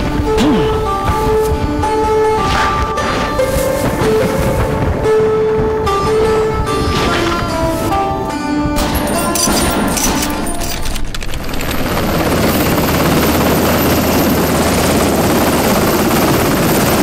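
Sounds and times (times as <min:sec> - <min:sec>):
helicopter rotor and turbine: 0:00.0 - 0:17.0.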